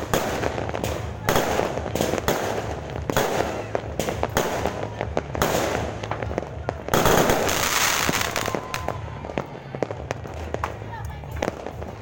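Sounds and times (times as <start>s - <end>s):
fireworks bangs and pops: 0.0s - 12.0s
fireworks hissing crackle: 0.0s - 12.0s.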